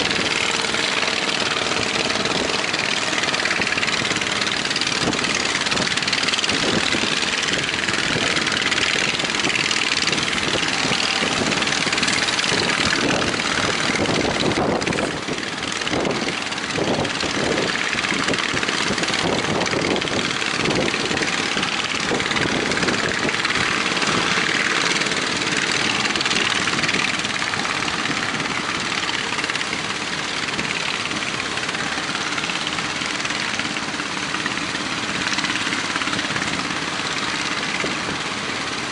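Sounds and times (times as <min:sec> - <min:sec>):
boat engines running: 0:00.0 - 0:38.9
steady rushing noise: 0:00.0 - 0:38.9.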